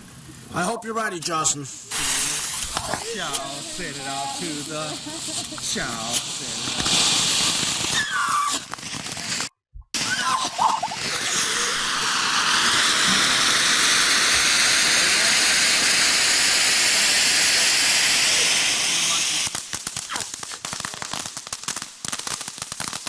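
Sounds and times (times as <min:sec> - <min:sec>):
firework hissing: 0:01.3 - 0:23.0.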